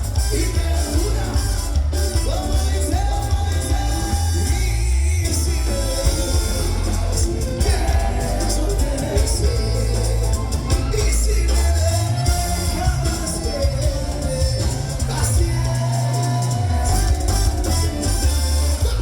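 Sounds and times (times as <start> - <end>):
heavy bass line: 0.0 - 19.0
live band music: 0.0 - 19.0
person singing: 0.0 - 19.0.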